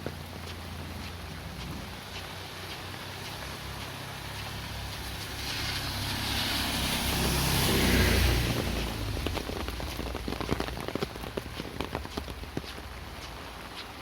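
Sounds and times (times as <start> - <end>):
tyre hiss on wet road: 0.0 - 14.0
vehicle engine rumble: 0.0 - 14.0.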